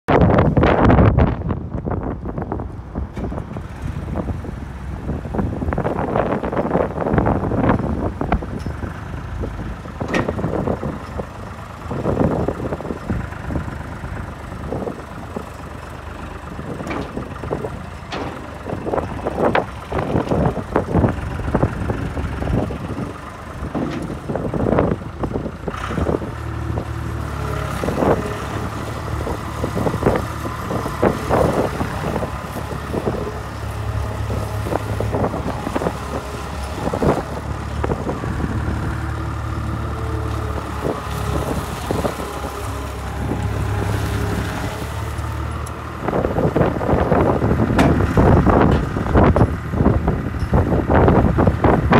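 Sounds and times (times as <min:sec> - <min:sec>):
diesel engine running: 0:00.1 - 0:51.9.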